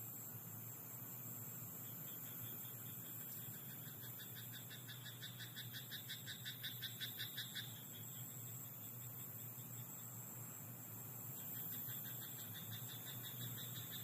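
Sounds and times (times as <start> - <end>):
faint background hiss and hum: 0.0 - 14.0.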